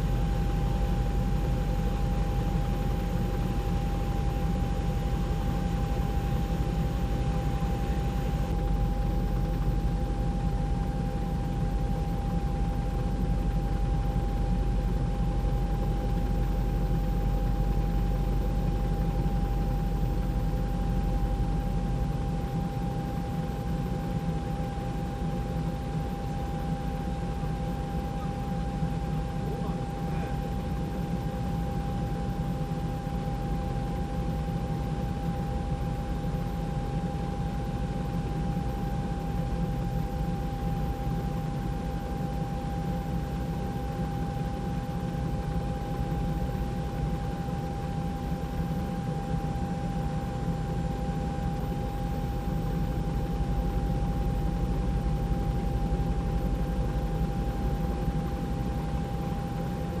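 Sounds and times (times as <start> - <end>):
helicopter engine and rotor rumble: 0.0 - 60.0
thin steady whine: 0.0 - 60.0.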